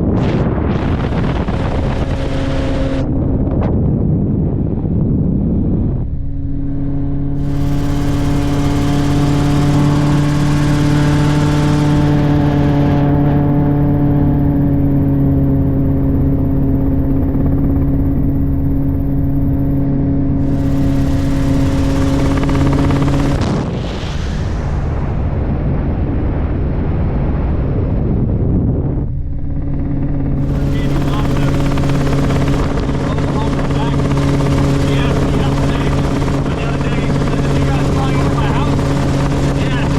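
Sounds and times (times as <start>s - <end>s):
constant hum: 0.0s - 39.9s
helicopter cabin drone: 0.0s - 39.9s.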